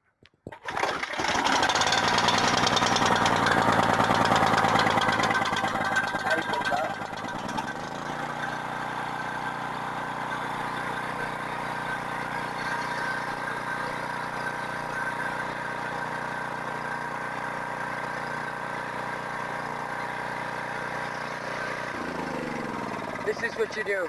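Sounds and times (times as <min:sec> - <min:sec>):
gas generator running: 0:00.5 - 0:24.0.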